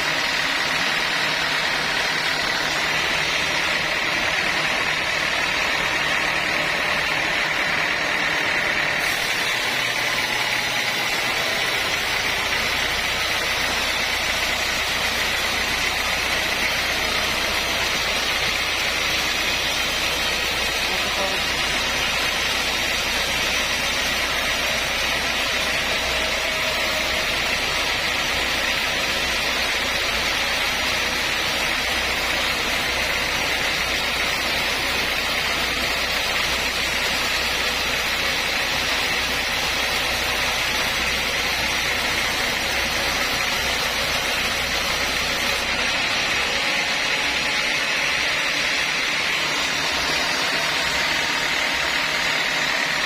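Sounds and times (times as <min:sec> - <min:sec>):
sawmill saw cutting wood: 0:00.0 - 0:53.0.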